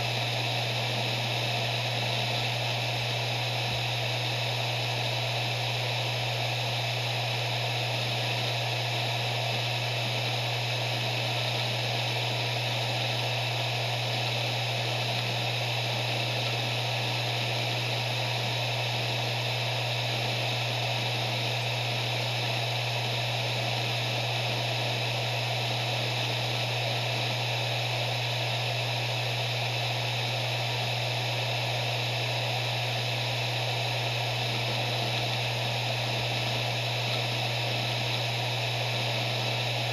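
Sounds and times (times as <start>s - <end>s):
hard drive whirring: 0.0s - 39.9s
steady low hum: 0.0s - 39.9s.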